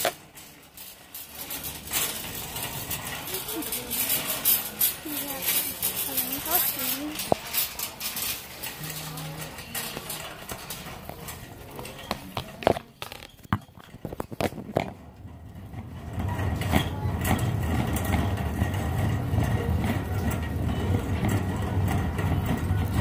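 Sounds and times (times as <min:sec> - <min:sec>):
shopping cart rumble: 0:00.0 - 0:23.0.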